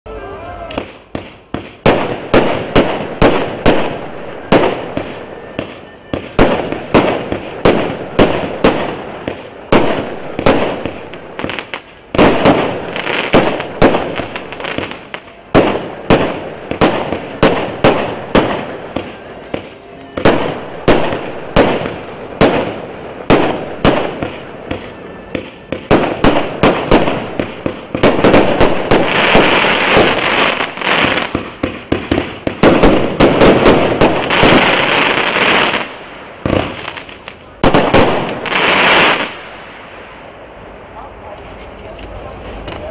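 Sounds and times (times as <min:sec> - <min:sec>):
fireworks cake firing: 0:00.1 - 0:39.6.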